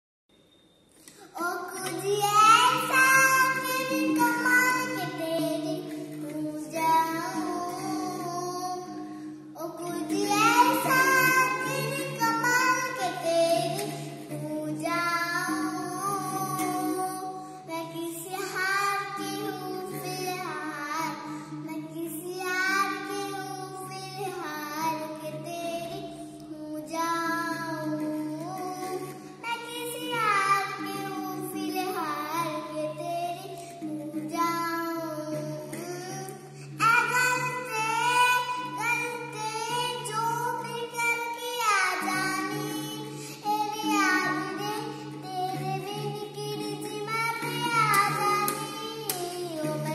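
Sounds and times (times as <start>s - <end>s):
girl singing: 1.0s - 49.9s.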